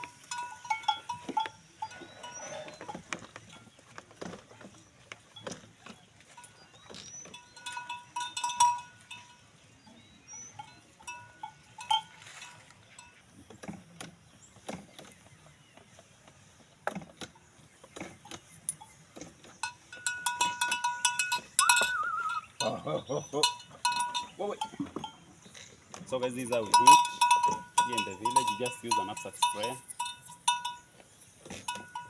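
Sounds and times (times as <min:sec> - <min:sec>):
cowbells clanking: 0:00.0 - 0:13.9, 0:18.0 - 0:32.0.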